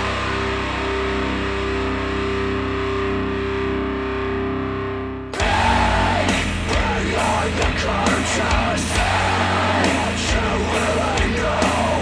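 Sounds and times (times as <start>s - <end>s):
death metal music: 0.0s - 12.0s.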